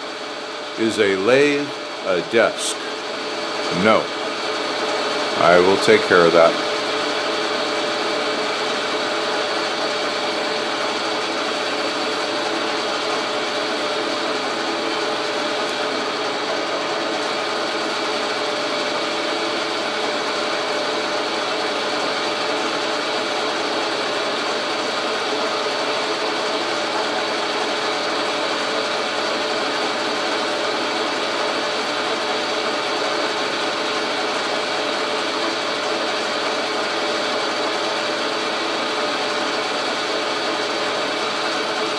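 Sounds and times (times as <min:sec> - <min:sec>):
metal lathe whining: 0:00.0 - 0:41.9.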